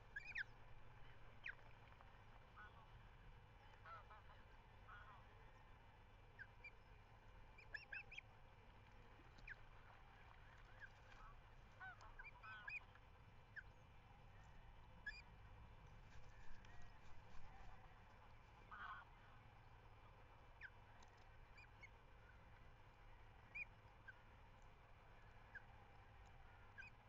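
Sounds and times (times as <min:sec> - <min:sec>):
faint bird calls: 0:00.0 - 0:01.9, 0:03.6 - 0:15.3, 0:15.9 - 0:27.0
low background rumble: 0:00.0 - 0:27.0.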